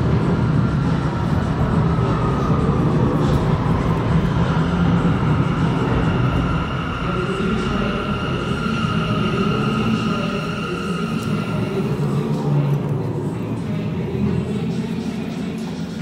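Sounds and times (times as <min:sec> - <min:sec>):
subway train approaching: 0:00.0 - 0:16.0.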